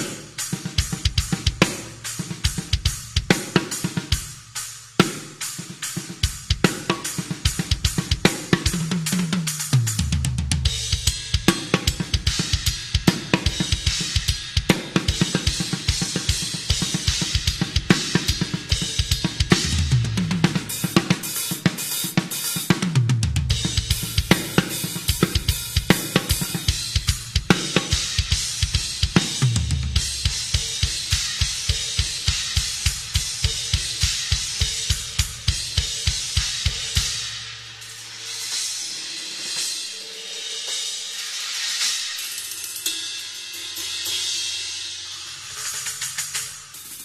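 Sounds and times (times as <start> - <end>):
cymbals washing: 0.0 - 22.9, 23.5 - 47.0
bass drum and snare groove: 0.0 - 40.0.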